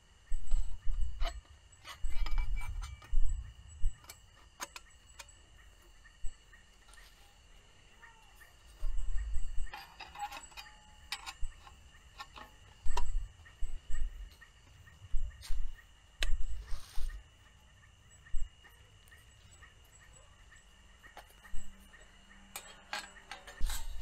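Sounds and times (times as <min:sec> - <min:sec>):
high-pitched night chorus: 0:00.1 - 0:24.0.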